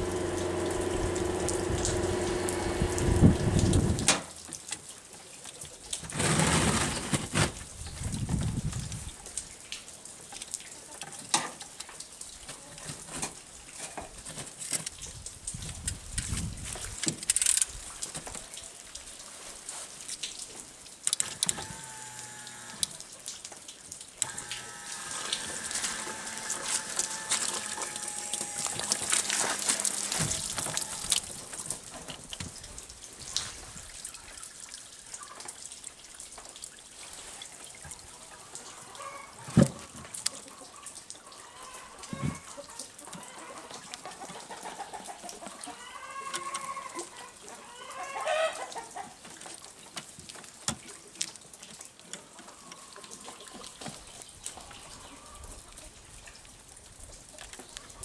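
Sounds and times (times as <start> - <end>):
liquid trickling and dripping: 0.0 - 6.1, 7.6 - 58.0.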